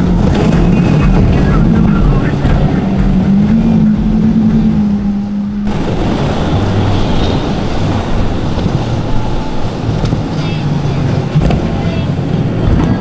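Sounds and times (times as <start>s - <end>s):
lower boat engine note: 0.0s - 13.0s
outboard motor drone: 0.0s - 13.0s
rushing water: 0.0s - 13.0s
wind noise: 0.0s - 13.0s.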